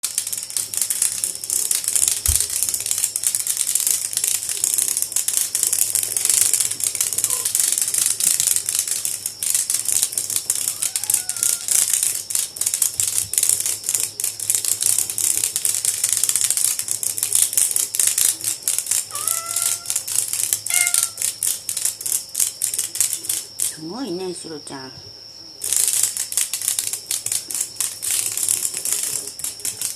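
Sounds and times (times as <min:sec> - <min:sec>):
cicada buzzing: 0:00.1 - 0:29.9.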